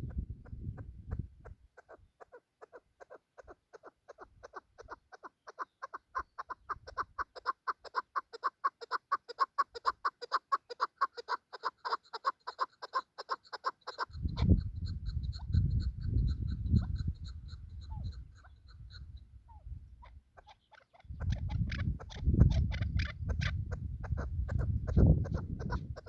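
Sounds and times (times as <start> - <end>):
partridge rallying call: 1.8 - 26.0.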